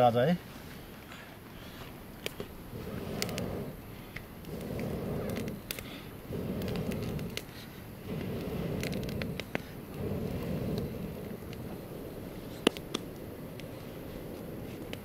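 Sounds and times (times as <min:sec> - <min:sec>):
wood fire crackling: 0:00.0 - 0:15.0
low rushing noise: 0:02.4 - 0:15.0.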